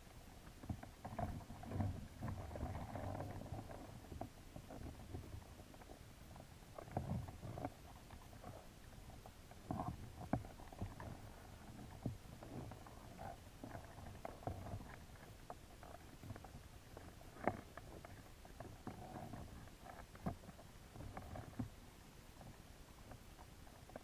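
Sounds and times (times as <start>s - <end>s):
clicks and knocks underwater: 0.0s - 24.0s
low underwater rumble: 0.0s - 24.0s.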